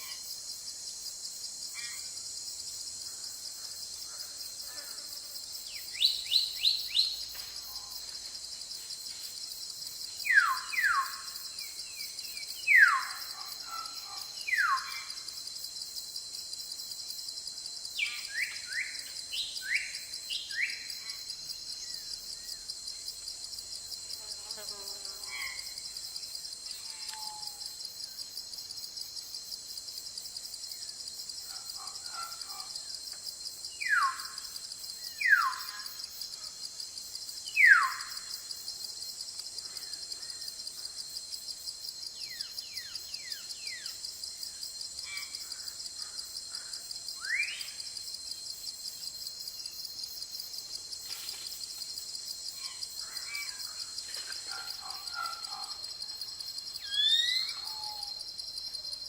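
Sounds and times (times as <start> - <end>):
pulsing insect chorus: 0.0 - 59.0.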